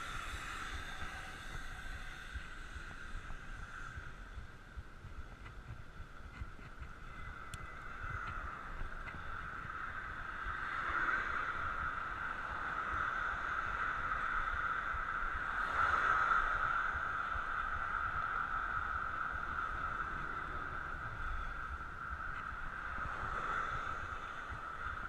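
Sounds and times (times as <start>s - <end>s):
bicycle tyres humming: 0.0s - 25.0s
wind rumble on microphone: 0.0s - 25.0s.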